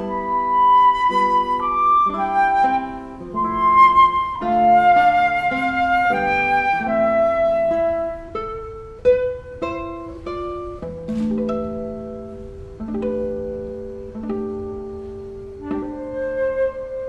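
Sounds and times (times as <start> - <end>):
classical guitar plucked notes: 0.0 - 17.0.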